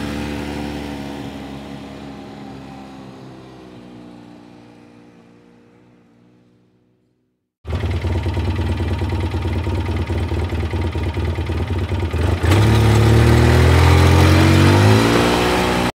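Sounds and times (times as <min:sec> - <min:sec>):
quad bike engine revving: 0:00.0 - 0:05.6, 0:07.7 - 0:15.9.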